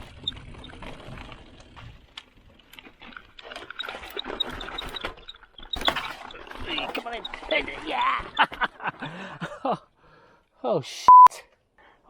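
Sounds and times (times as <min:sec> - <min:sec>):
mountain bike rattling over rocks: 0:00.0 - 0:09.7.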